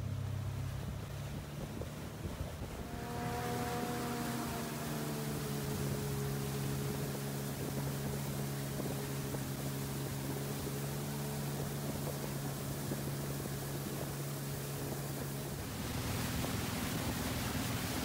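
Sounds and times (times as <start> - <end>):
motorboat engine running: 0.0 - 18.0
water and wind hiss: 0.0 - 18.0.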